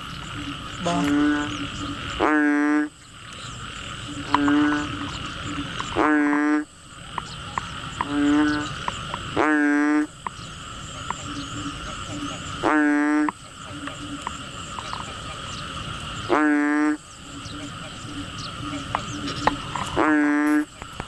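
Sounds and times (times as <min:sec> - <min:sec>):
frog calling: 0:00.0 - 0:21.0
insects buzzing: 0:00.0 - 0:21.0.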